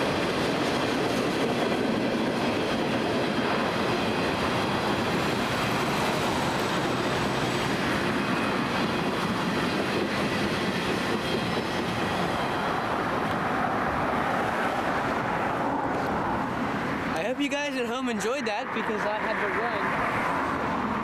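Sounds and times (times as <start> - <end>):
freight train wheels rumbling: 0.0 - 18.3.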